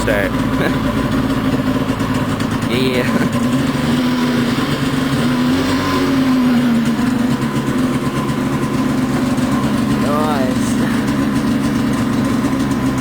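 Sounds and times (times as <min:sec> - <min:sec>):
snowmobile two-stroke engine running: 0:00.0 - 0:13.0.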